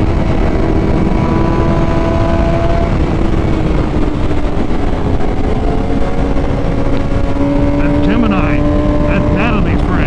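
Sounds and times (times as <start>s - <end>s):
motorcycle engine at steady revs: 0.0s - 10.0s
wind rush: 0.0s - 10.0s.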